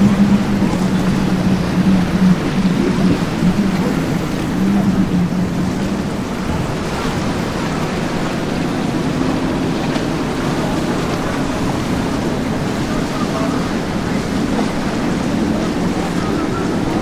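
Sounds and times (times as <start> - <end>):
hull splashing through waves: 0.0 - 17.0
outboard engines droning: 0.0 - 17.0
wind on microphone: 0.0 - 17.0.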